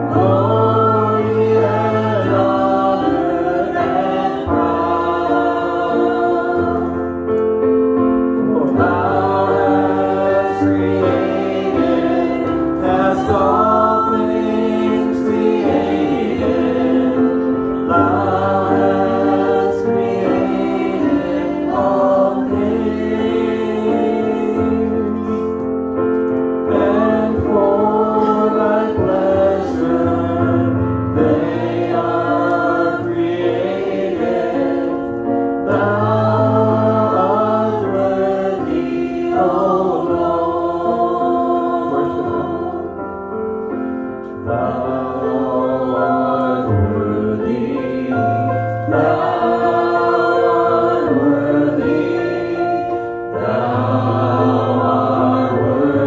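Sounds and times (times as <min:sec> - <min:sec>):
digital piano: 0:00.0 - 0:56.0
voices singing a hymn in harmony: 0:00.0 - 0:56.0.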